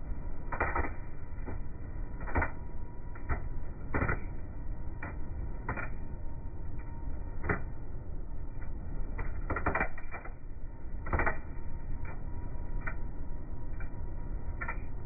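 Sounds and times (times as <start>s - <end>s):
steady low rumble: 0.0s - 15.0s
welding crackling pops: 0.0s - 15.0s.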